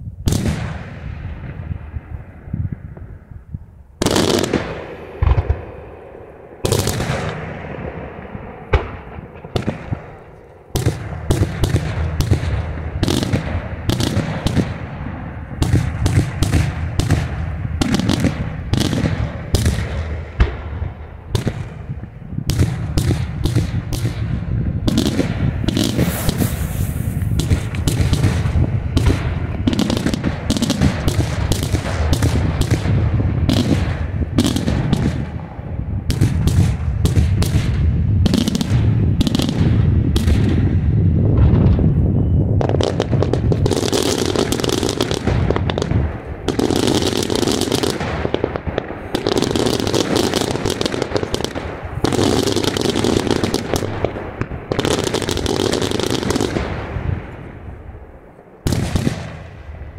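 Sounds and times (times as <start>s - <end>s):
firework bangs: 0.3s - 3.2s, 4.0s - 59.9s.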